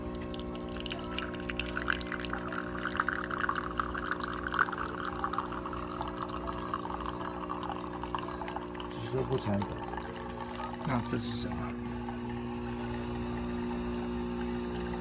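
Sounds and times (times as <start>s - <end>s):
coffee machine motor hum: 0.0s - 15.0s.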